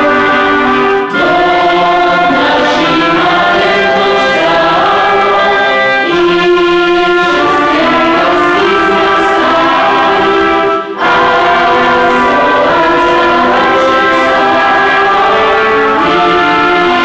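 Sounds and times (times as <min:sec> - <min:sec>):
mixed choir singing a carol: 0:00.0 - 0:17.0.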